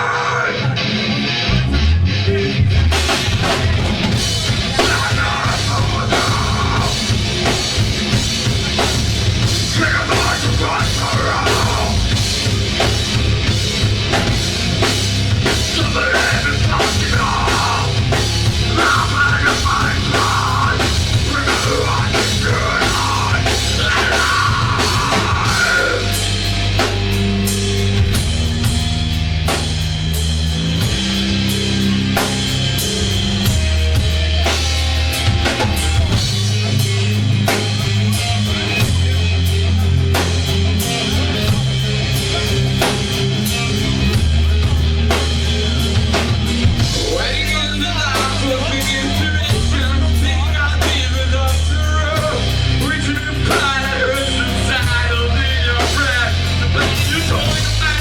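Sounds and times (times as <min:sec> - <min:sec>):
drum kit beat: 0:00.0 - 0:58.0
electric guitars: 0:00.0 - 0:58.0
live rock band: 0:00.0 - 0:58.0.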